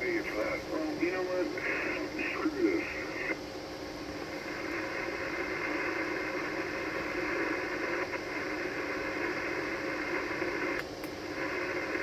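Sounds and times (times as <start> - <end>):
radio static hissing: 0.0 - 12.0.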